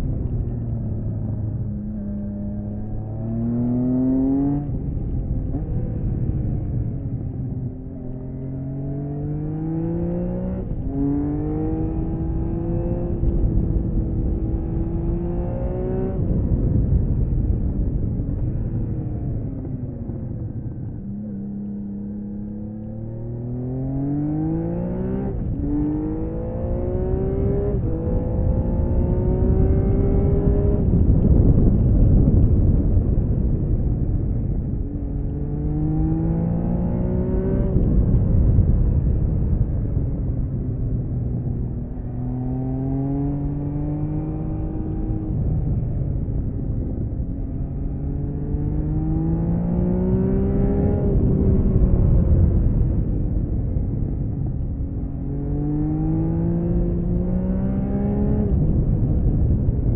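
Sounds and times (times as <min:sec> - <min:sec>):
motorcycle engine accelerating: 0:00.0 - 0:59.9
wind noise: 0:00.0 - 0:59.9.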